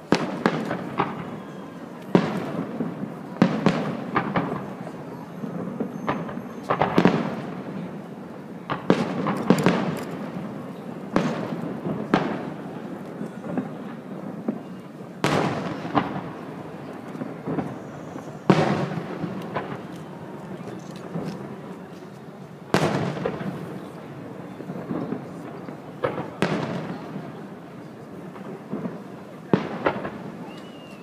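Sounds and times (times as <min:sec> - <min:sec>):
fireworks bursting with bangs: 0:00.0 - 0:31.0.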